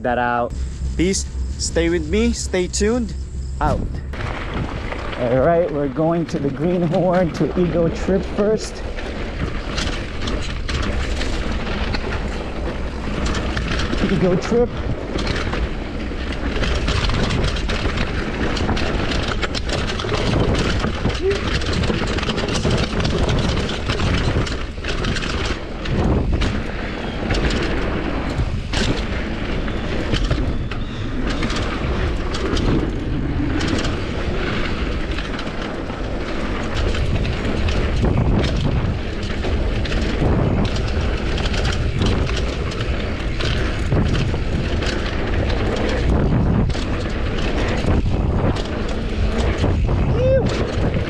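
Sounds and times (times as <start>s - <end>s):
bike clacking and rattling: 0.0s - 51.0s
bike tyre noise: 0.0s - 51.0s
wind rush on microphone: 0.0s - 51.0s.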